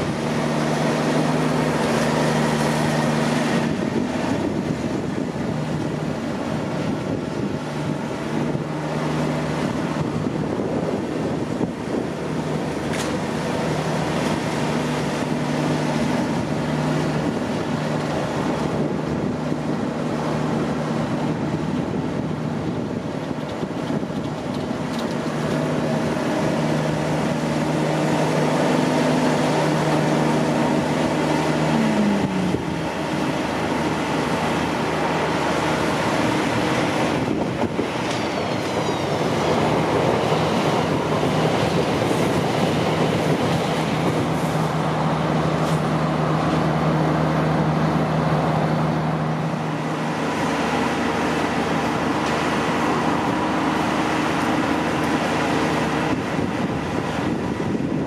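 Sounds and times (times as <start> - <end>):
electric train traction hum: 0.0 - 58.0
wheel-on-rail noise: 0.0 - 58.0.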